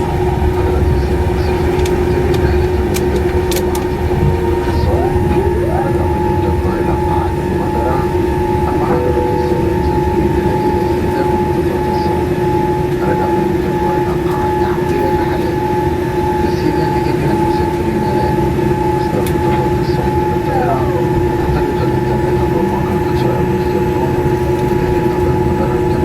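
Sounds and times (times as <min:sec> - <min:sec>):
airliner cabin rumble: 0:00.0 - 0:26.0
constant whining tones: 0:00.0 - 0:26.0.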